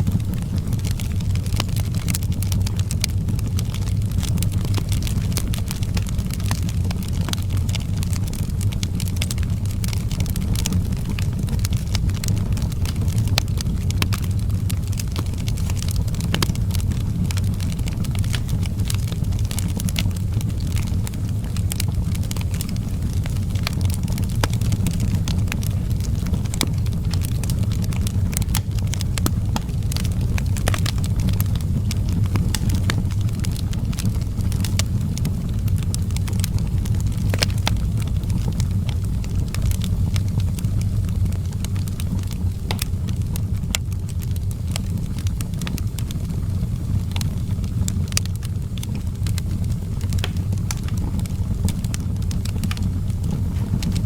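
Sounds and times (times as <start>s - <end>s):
wood fire burning and crackling: 0.0s - 54.0s.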